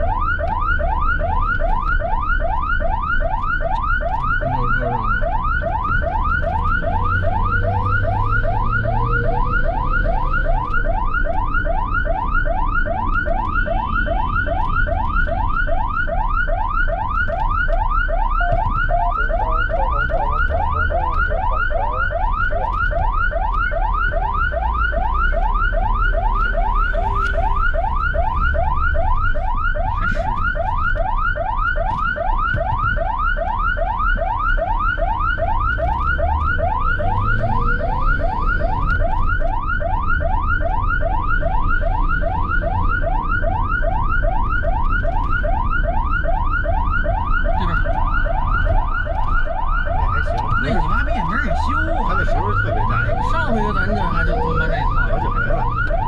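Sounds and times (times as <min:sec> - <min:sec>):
ambulance siren yelping: 0:00.0 - 0:56.0
engine and road rumble: 0:00.0 - 0:56.0.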